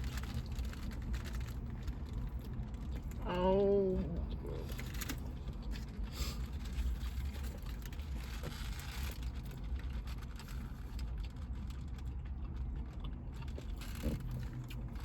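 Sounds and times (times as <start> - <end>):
chewing: 0.0 - 15.0
low steady rumble: 0.0 - 15.0.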